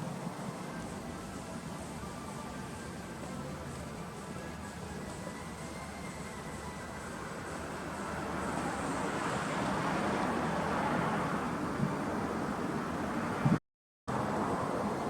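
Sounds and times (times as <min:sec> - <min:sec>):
steady car noise: 0:00.0 - 0:15.0.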